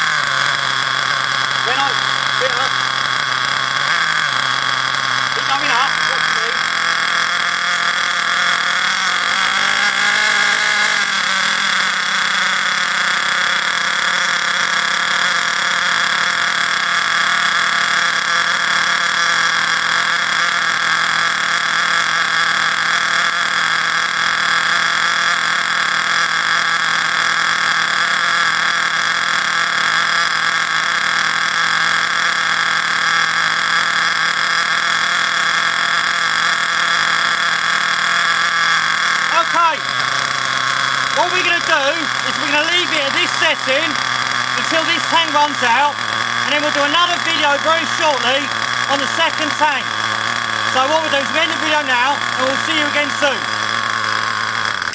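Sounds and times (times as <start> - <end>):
nitro engine buzzing: 0.0 - 54.9.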